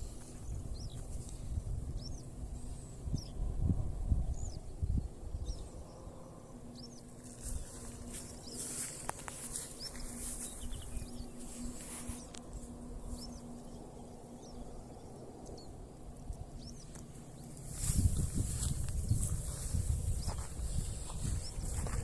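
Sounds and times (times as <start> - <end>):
bird chirping: 0.0 - 3.4, 4.1 - 22.0
faint steady hum: 0.0 - 22.0
low rumble of wind: 0.0 - 22.0.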